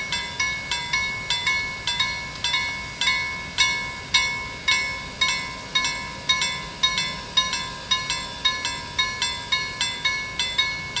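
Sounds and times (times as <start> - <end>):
level crossing warning bell: 0.0 - 11.0.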